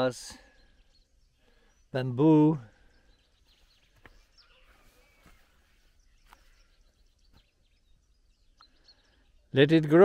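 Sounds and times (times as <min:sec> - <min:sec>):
faint chirps: 0:00.0 - 0:09.7.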